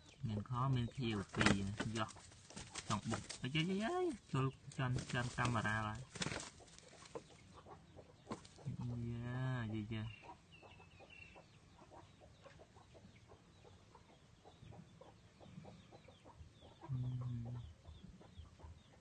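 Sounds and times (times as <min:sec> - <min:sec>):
chickens clucking softly: 0:00.0 - 0:19.0.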